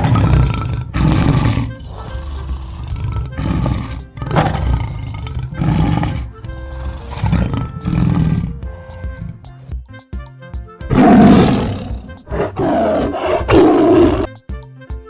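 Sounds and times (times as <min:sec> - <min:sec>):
animal roaring: 0:00.0 - 0:09.4, 0:10.9 - 0:14.3
background music: 0:00.0 - 0:15.0.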